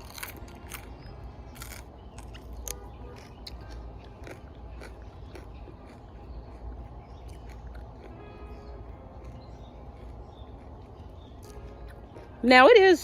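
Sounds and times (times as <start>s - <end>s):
person crunching pea pod: 0.0s - 12.4s.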